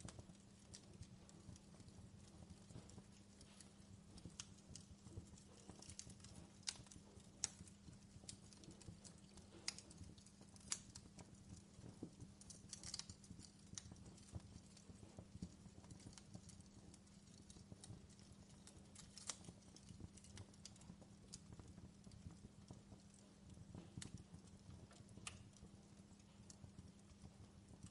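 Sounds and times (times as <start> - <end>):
burning wood crackling: 0.0 - 27.9.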